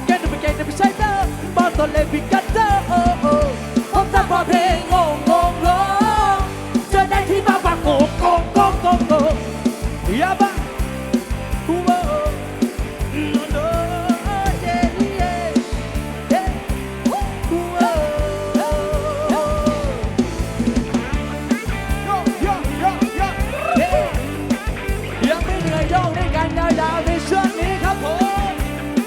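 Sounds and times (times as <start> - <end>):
sliding lead melody: 0.0 - 25.9
drum kit beat: 0.0 - 29.0
heavy bass: 0.0 - 29.0
live band music: 0.0 - 29.0.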